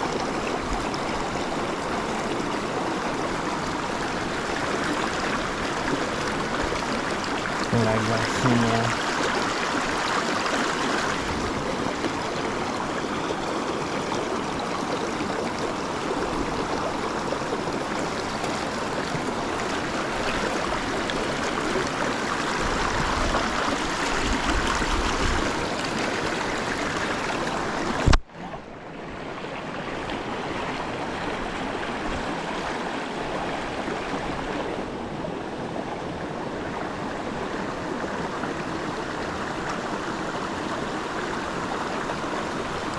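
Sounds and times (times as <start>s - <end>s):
stream running: 0.0s - 42.9s.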